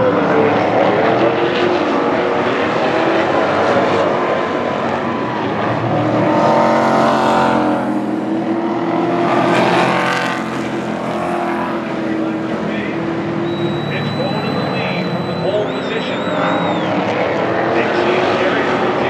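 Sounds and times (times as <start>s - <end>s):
race truck engines at full throttle: 0.0s - 19.0s.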